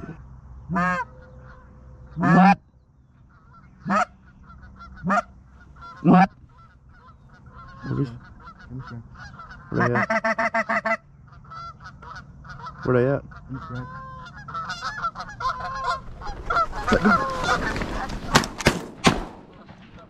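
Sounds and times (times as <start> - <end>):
distant geese honking: 0.0 - 20.0
geese honking: 0.6 - 18.8, 19.5 - 20.0.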